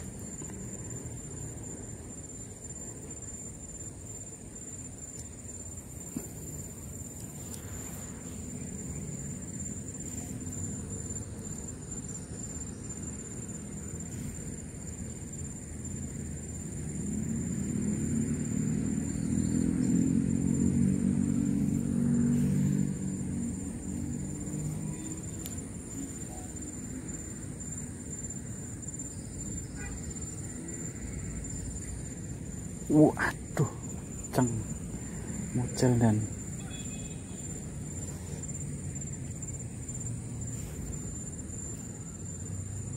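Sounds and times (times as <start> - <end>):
insect chirring: 0.0 - 42.9.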